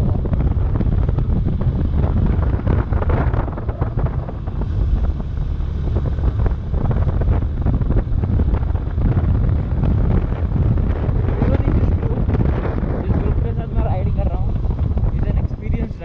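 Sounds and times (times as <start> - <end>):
motorcycle road noise: 0.0 - 16.0
wind buffeting microphone: 0.0 - 16.0.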